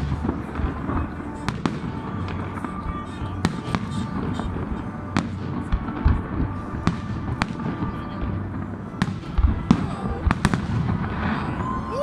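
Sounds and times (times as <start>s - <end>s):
fireworks bursting with sharp bangs: 0.0s - 12.0s
low rumble of explosions: 0.0s - 12.0s.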